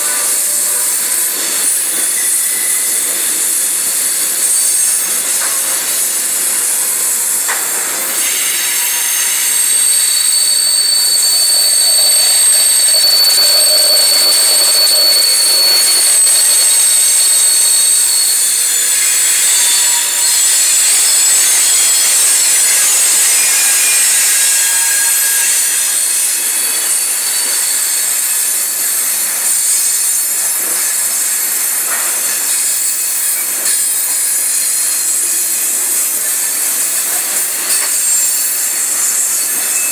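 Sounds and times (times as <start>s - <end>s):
passing train hiss: 0.0s - 39.9s
train wheels screeching: 0.0s - 39.9s.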